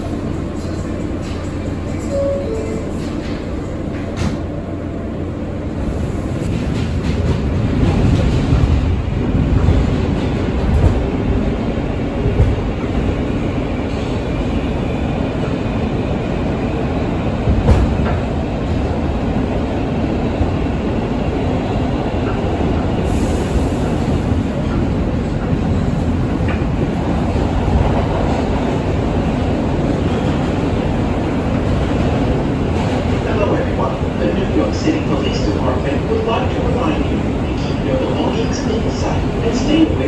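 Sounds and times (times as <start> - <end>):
subway train wheels rumbling: 0.0 - 40.0.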